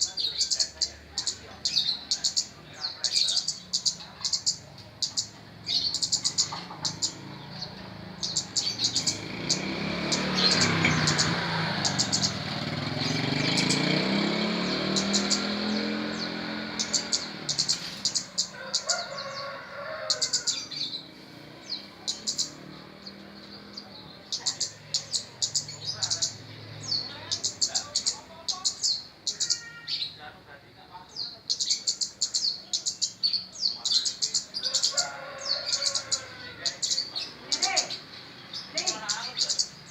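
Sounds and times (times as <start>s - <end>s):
songbird chirping: 0.0s - 39.9s
vehicle passing: 0.0s - 39.9s.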